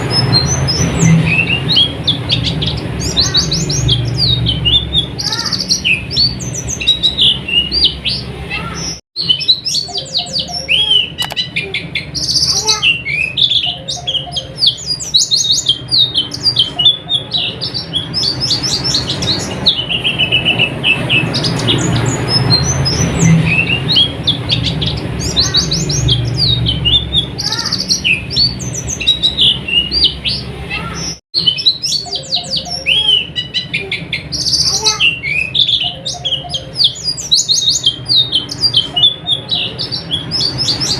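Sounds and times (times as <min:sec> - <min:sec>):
bird twittering song: 0:00.0 - 0:40.9.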